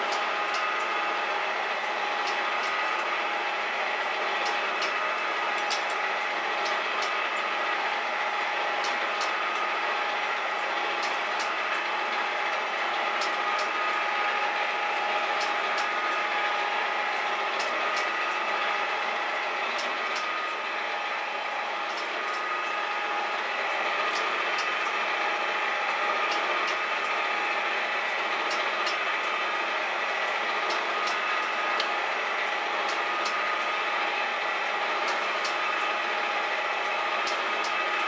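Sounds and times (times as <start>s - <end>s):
metal shaper running: 0.0s - 38.0s.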